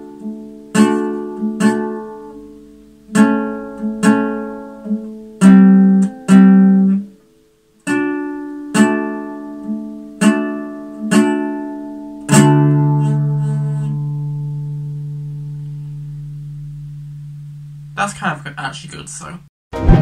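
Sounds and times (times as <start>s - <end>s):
acoustic guitar plucked chords: 0.0s - 20.0s.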